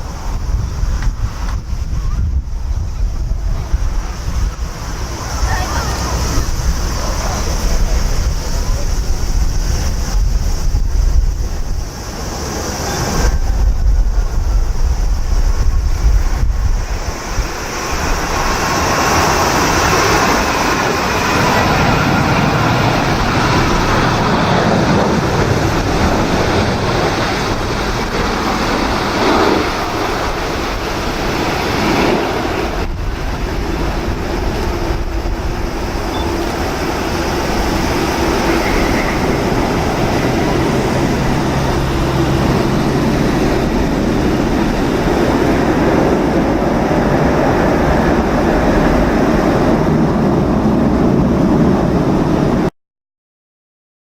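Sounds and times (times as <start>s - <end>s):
gusting wind buffeting microphone: 0.0s - 52.7s
steady rushing noise: 0.0s - 52.7s.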